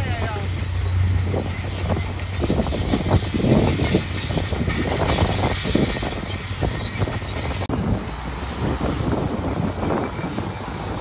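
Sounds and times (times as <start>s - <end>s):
dump truck engines idling: 0.0s - 5.0s, 6.6s - 11.0s.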